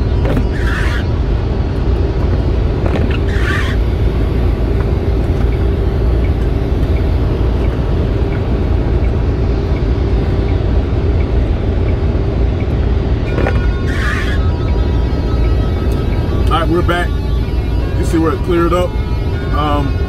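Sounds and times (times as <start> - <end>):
truck engine and tyre rumble: 0.0 - 20.0.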